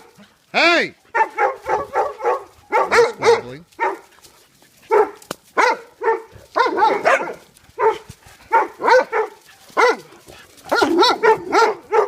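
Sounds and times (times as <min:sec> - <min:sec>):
dogs barking: 0:01.0 - 0:12.0.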